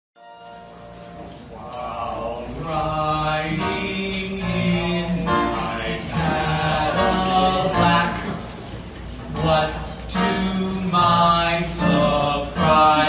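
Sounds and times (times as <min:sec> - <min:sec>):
voices singing long held notes: 0:01.6 - 0:08.5, 0:09.4 - 0:13.0.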